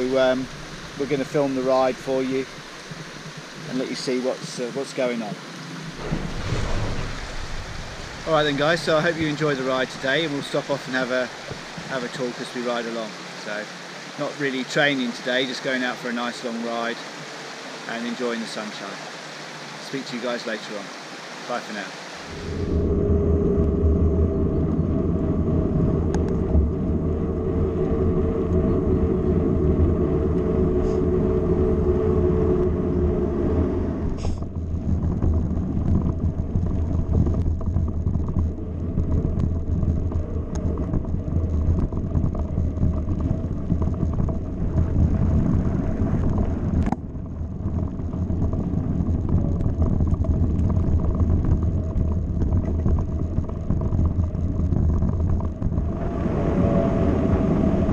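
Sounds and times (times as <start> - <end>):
bike tyres rumbling: 0.0 - 57.9
wind: 0.0 - 57.9.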